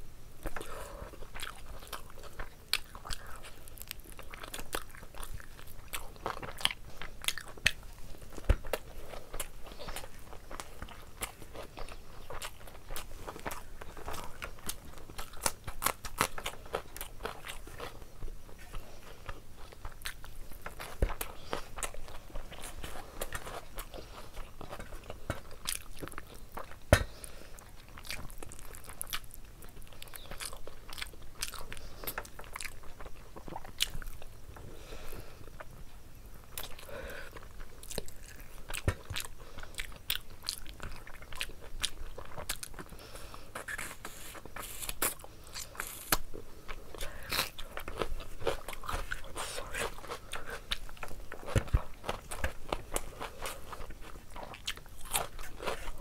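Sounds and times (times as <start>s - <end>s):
person chewing food: 0.4s - 56.0s.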